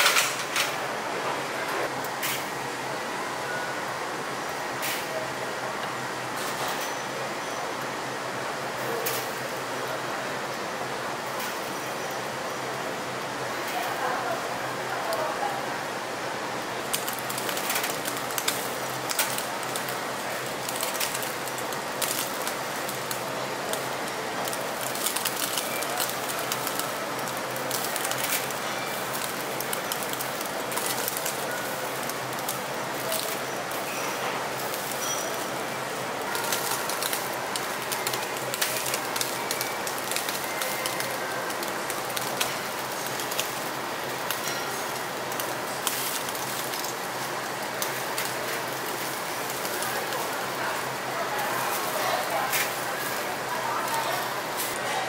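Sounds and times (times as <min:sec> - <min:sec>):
meat sizzling on a grill: 0:03.8 - 0:55.0.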